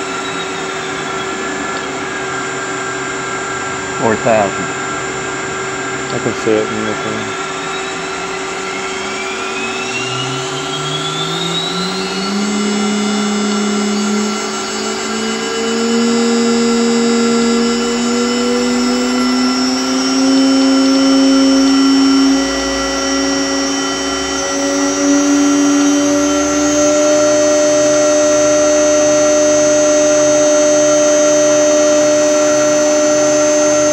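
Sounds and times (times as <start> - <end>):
router spindle whine: 0.0 - 33.9.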